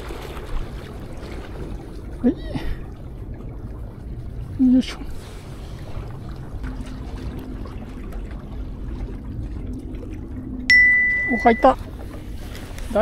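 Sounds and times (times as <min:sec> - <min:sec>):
sea water lapping: 0:00.0 - 0:13.0
faint steady hum: 0:00.1 - 0:13.0.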